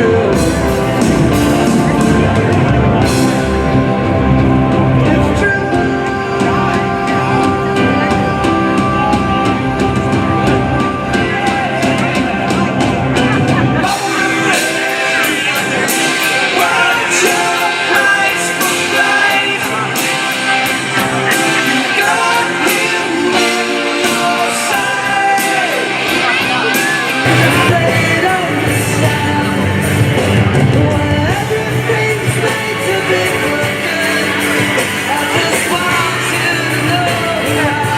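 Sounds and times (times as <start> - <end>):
rock music with singer: 0.0 - 37.9.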